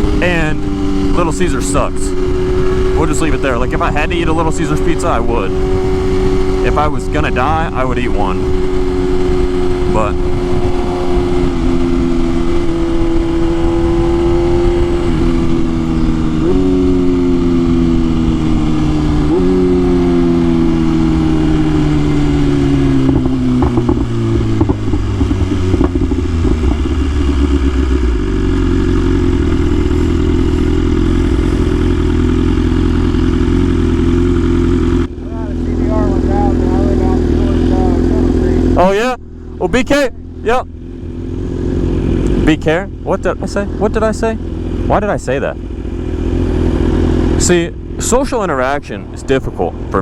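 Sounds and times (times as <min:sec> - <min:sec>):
exhaust pops and crackles: 0:00.0 - 0:40.8
motorcycle engine downshifting: 0:00.0 - 0:50.0
motorcycle engine idling: 0:00.0 - 0:50.0.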